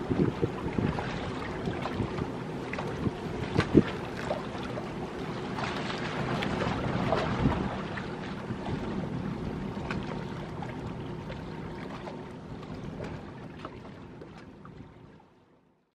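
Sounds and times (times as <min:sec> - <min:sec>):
water lapping against hulls: 0:00.0 - 0:15.8
low steady hum: 0:00.0 - 0:15.9.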